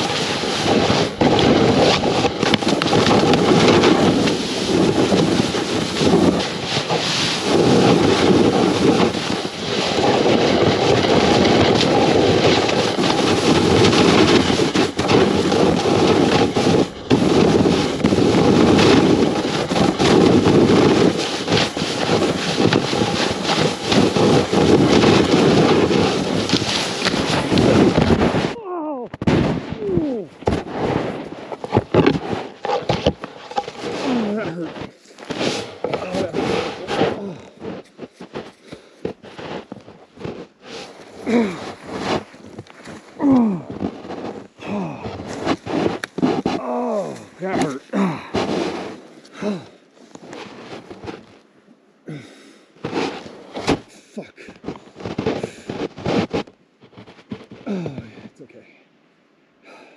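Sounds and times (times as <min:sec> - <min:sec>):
scuffs in snow: 0:00.0 - 0:28.6, 0:29.4 - 0:51.4, 0:52.1 - 0:58.3
snowboard scraping over snow: 0:00.0 - 0:28.6, 0:29.2 - 0:51.5, 0:52.1 - 0:58.5.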